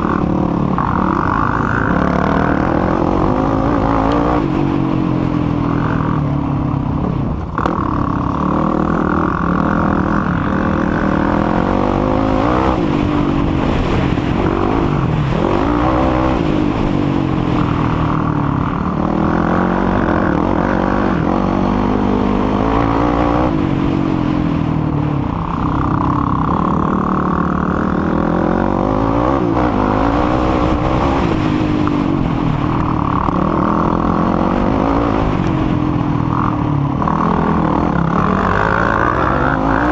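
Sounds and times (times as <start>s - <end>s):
quad engine revving: 0.0s - 6.4s, 7.4s - 39.9s.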